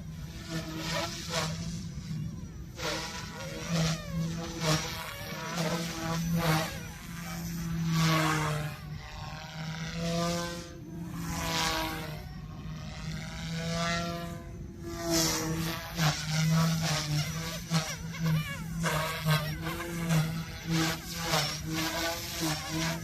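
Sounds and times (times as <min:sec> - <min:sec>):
motor whine gliding in pitch: 0:00.0 - 0:23.0
rc helicopter rotor hum: 0:00.0 - 0:23.0.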